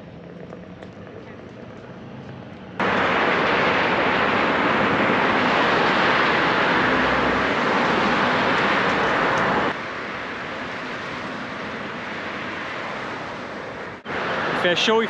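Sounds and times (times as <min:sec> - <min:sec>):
road noise: 0:00.0 - 0:15.0
wind rushing: 0:02.8 - 0:15.0.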